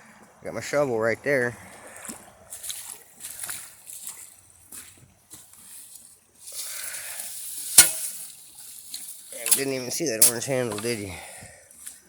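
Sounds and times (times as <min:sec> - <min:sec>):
dry leaves and brush rustling: 0:01.8 - 0:12.0.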